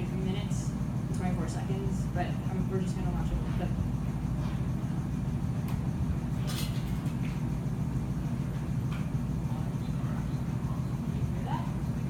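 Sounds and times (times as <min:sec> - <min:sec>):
low room rumble: 0:00.0 - 0:12.0.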